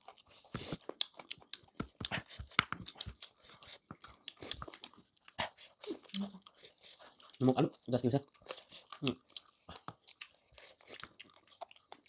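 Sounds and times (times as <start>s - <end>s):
chewing with wet smacks: 0.0s - 12.0s.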